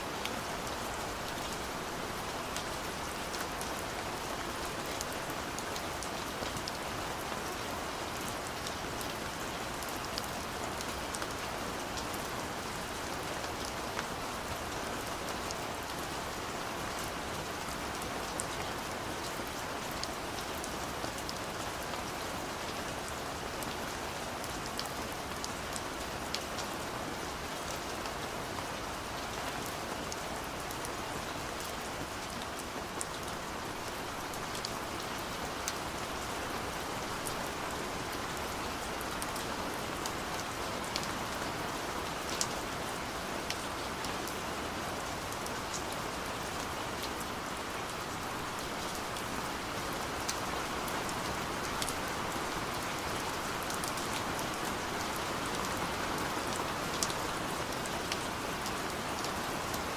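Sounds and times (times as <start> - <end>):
raindrops ticking on surfaces: 0.0 - 59.9
steady rainfall: 0.0 - 59.9.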